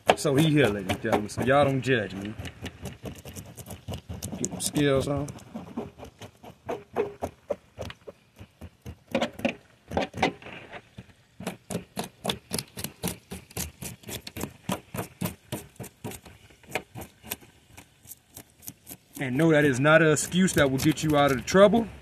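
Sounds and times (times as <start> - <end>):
metal spoon scraping fish scales: 0.1 - 7.8, 11.4 - 21.9.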